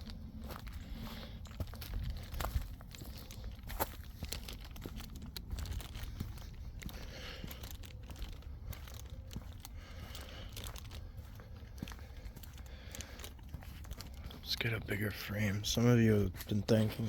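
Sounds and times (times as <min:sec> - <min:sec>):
rustling and crunching: 0:00.0 - 0:17.0
steady low rumble: 0:00.0 - 0:17.0.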